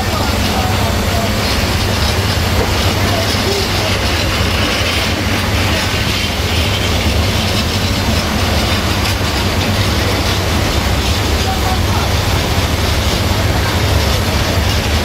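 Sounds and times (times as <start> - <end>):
freight wagon wheels on rails: 0.0 - 15.0.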